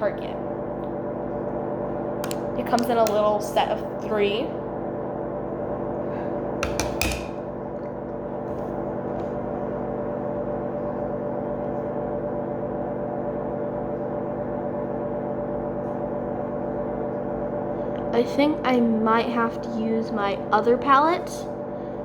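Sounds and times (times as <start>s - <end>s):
droning hum: 0.0s - 22.0s.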